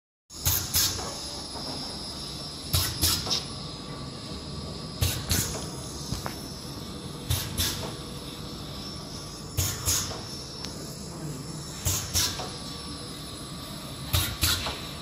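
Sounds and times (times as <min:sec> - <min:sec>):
sharp machine bursts: 0:00.3 - 0:03.8, 0:04.7 - 0:15.0
machine humming: 0:00.3 - 0:15.0.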